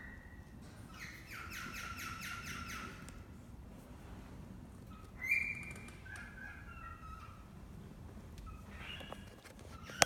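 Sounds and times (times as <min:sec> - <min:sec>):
low background noise: 0:00.0 - 0:10.0.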